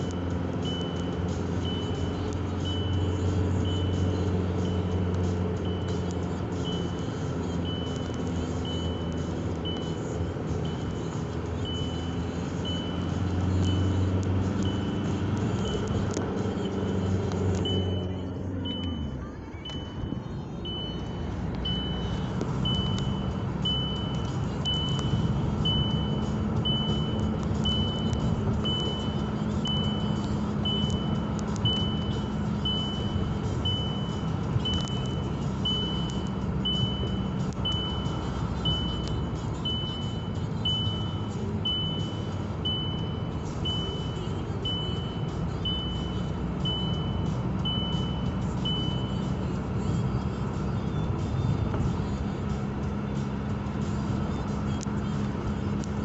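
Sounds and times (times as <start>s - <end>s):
car engine and tyre noise: 0.0s - 56.0s
dashboard warning chime beeping: 0.0s - 56.0s.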